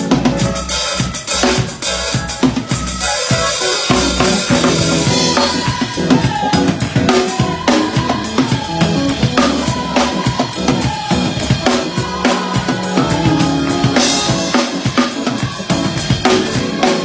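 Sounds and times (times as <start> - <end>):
drum kit playing a groove: 0.0 - 17.0.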